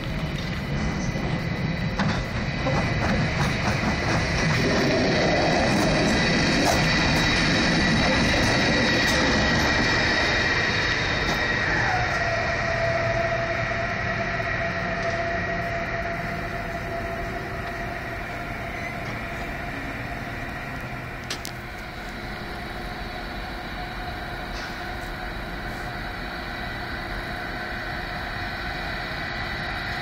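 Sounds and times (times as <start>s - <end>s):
electric locomotive whine: 0.0s - 30.0s
locomotive rumble: 0.0s - 30.0s.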